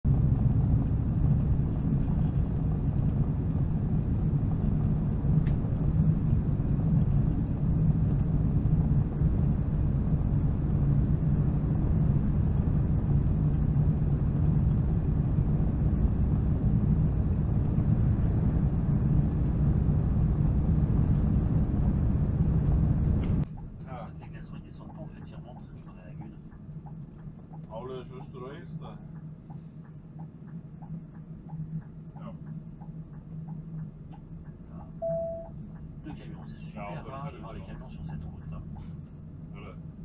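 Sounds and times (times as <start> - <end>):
truck engine and road noise: 0.0 - 40.0.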